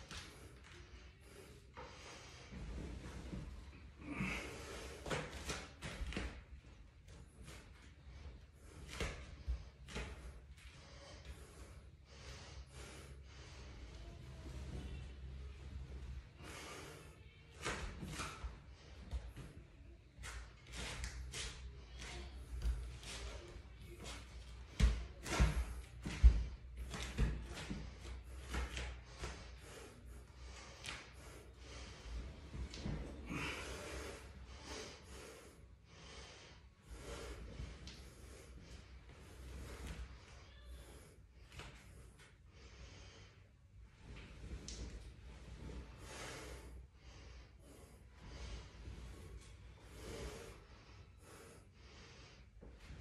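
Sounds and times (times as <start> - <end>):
person breathing hard: 0.0 - 6.4, 7.1 - 53.0.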